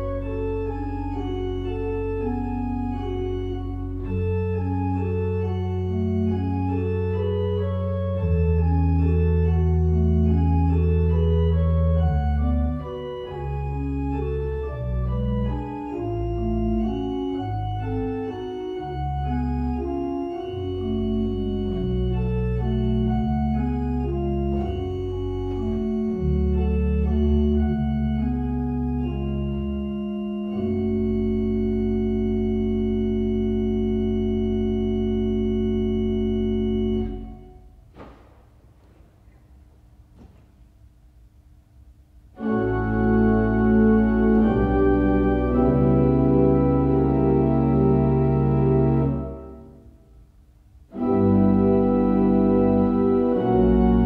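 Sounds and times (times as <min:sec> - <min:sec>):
church organ playing slow music: 0:00.0 - 0:37.8, 0:42.1 - 0:54.0.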